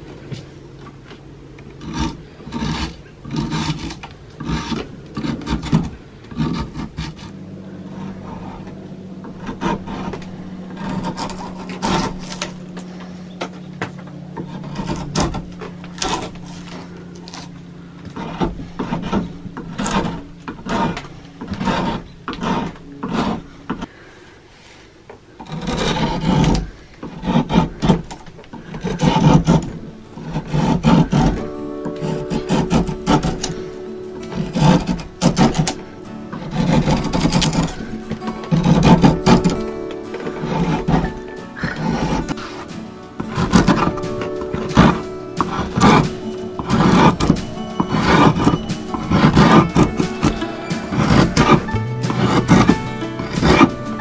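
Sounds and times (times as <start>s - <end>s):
steady low hum: 0.0s - 54.0s
draw knife scraping bark: 1.7s - 24.0s, 25.4s - 54.0s.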